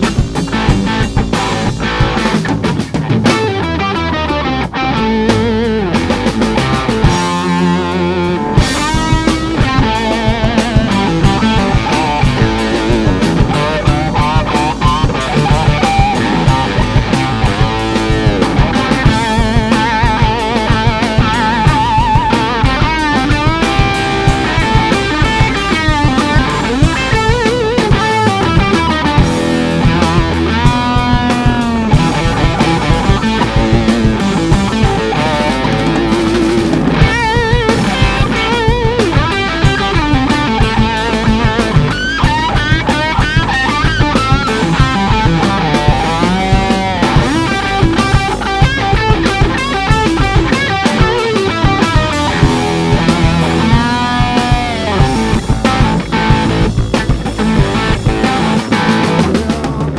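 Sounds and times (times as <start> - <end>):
bass and drums: 0.0 - 59.9
electric guitar solo: 0.0 - 59.9.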